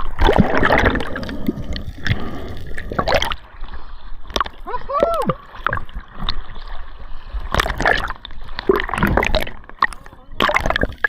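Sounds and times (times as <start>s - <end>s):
water splashing and gurgling: 0.0s - 11.0s.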